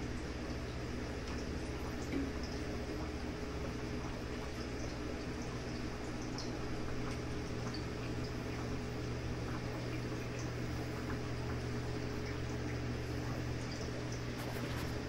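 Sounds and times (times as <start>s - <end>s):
aquarium equipment humming: 0.0s - 15.0s
water bubbling and trickling: 0.0s - 15.0s.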